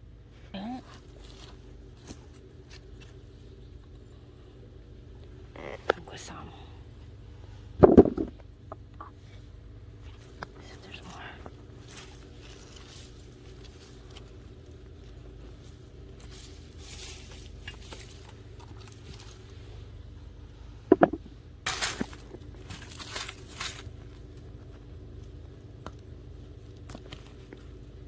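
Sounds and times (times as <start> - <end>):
low hum: 0.0 - 28.0
soil and plants rustling: 0.3 - 28.0.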